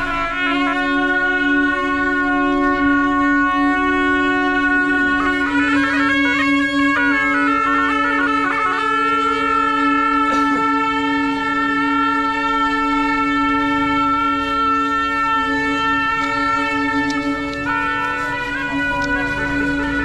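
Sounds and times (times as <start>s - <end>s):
reed wind instruments melody: 0.0s - 20.0s
steady drone: 0.0s - 20.0s.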